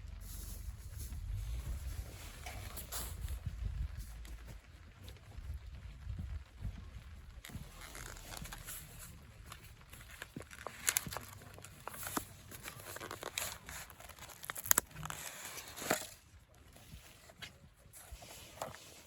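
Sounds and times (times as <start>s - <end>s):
fabric crinkling and rustling: 0.0s - 19.0s.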